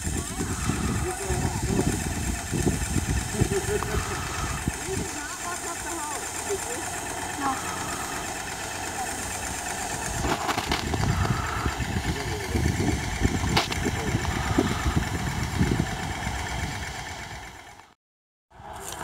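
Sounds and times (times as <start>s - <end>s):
irregular low rumbles: 0.0s - 16.9s
paint sprayer motor running: 0.0s - 17.9s.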